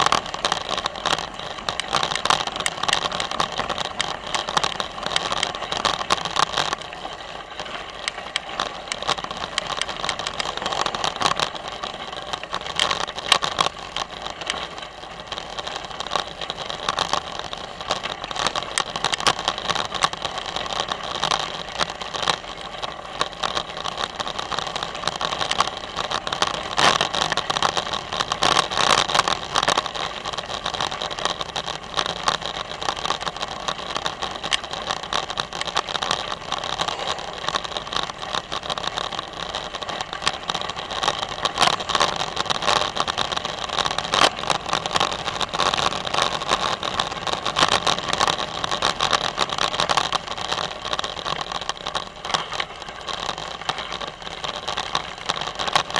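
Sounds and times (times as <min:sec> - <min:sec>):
bicycle tyres on gravel: 0:00.0 - 0:55.9.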